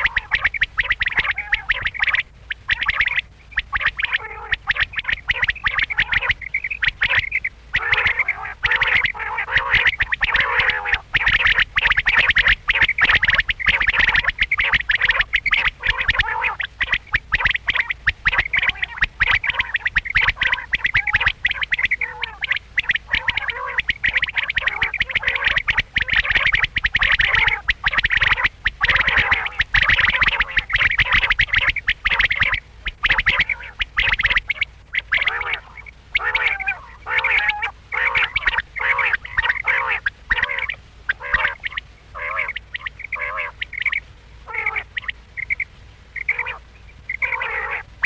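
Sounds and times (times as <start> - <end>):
quail calling: 0.0 - 48.0.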